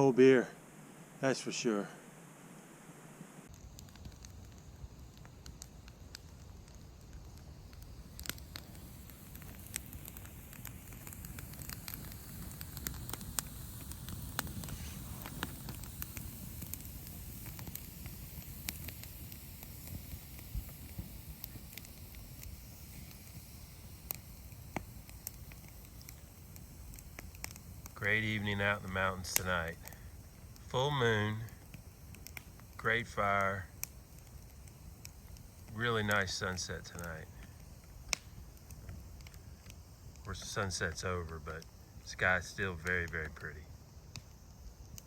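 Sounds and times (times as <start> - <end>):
campfire crackling and popping: 0.0 - 45.0
low steady fire rush: 0.0 - 45.0.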